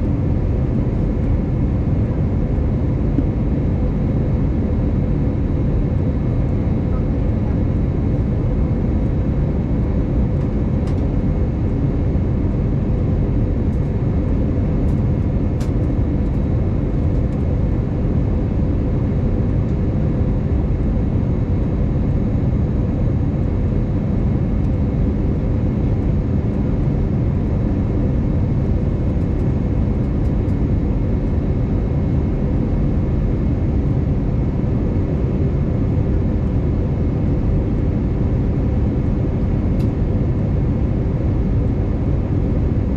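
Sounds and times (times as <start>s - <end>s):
jet engine and airflow rumble: 0.0s - 42.9s.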